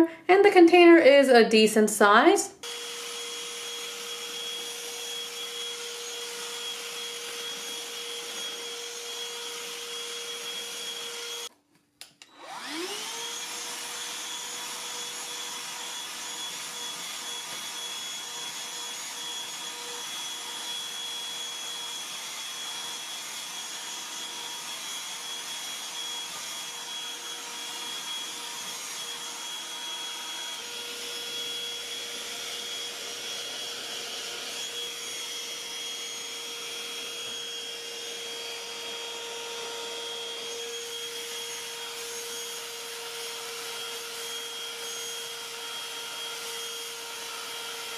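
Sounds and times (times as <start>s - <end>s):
handheld vacuum whining: 2.0s - 11.5s, 12.1s - 47.9s.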